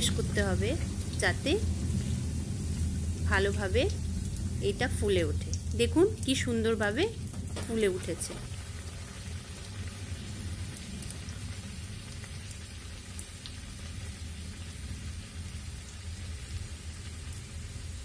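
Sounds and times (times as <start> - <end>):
deep-frying sizzling and bubbling: 0.0 - 18.0
low steady hum: 0.0 - 18.0
sharp oil crackles: 0.0 - 18.0.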